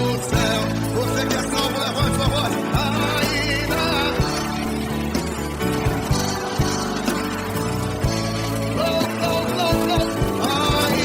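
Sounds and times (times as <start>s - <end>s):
instrumental gospel band music: 0.0s - 11.0s.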